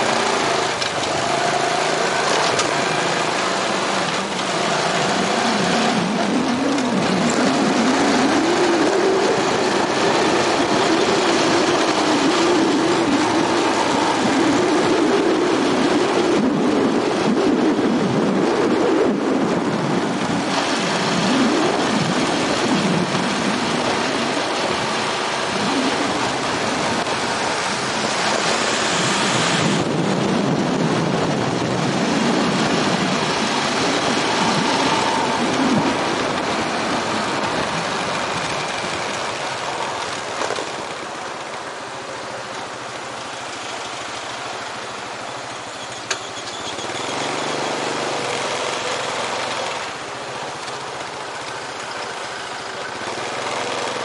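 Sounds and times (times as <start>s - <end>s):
wind rushing over microphone: 0.0s - 45.7s.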